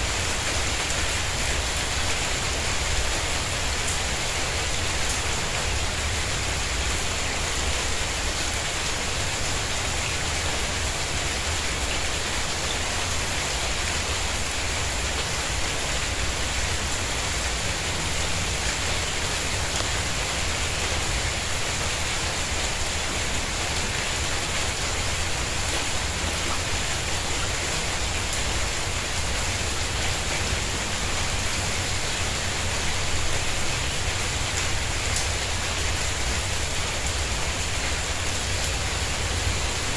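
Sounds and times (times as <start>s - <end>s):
steady rain on tiles: 0.0s - 39.9s.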